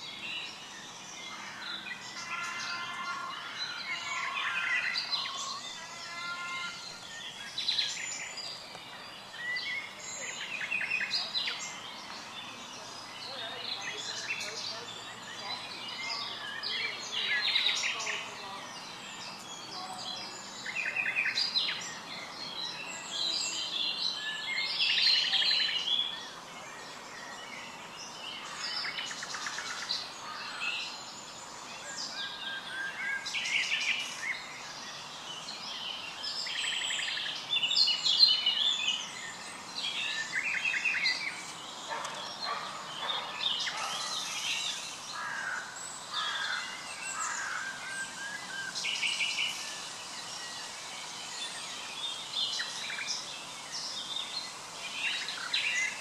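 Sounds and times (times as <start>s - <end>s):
birds chirping and trilling: 0.0s - 56.0s
faint steady hiss: 0.0s - 56.0s.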